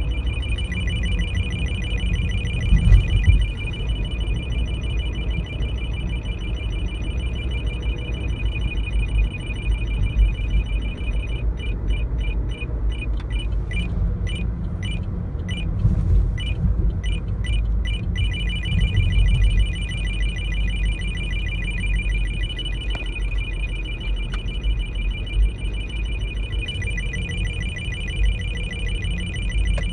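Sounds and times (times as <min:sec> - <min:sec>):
radar detector beeping: 0:00.0 - 0:15.8, 0:16.4 - 0:29.9
low car rumble: 0:00.0 - 0:29.9.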